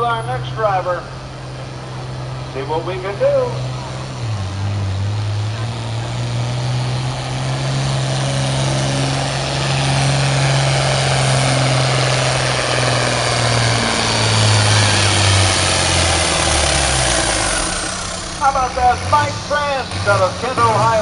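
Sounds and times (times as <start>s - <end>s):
tractor diesel engine running hard: 0.0s - 21.0s.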